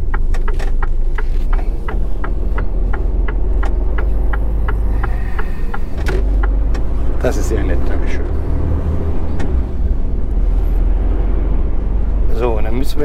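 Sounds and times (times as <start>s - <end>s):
diesel engine running low: 0.0s - 13.0s
turn signal ticking: 0.0s - 13.0s.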